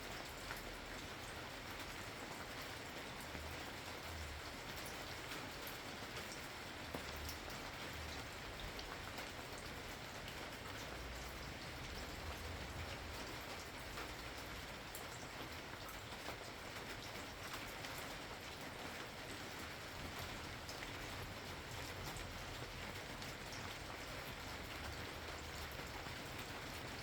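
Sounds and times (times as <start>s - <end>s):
rain pattering on a surface: 0.0s - 27.0s.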